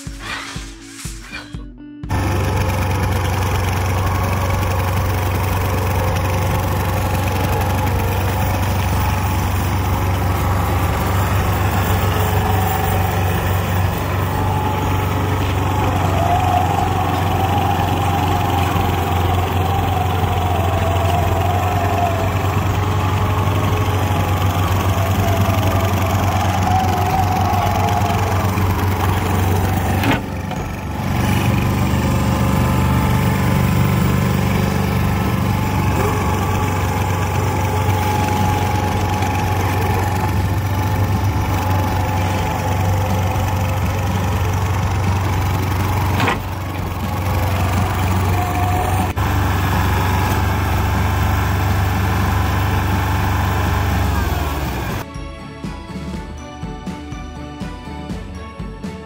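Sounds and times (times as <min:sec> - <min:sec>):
high whine: 0:00.0 - 0:55.0
diesel engine running: 0:02.0 - 0:55.1.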